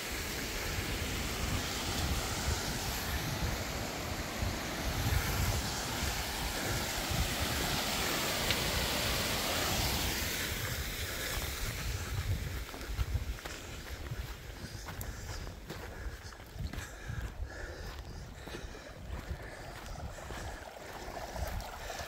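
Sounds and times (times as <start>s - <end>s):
stream rushing: 0.0s - 16.5s, 19.1s - 22.0s
wind buffeting microphone: 0.2s - 22.0s.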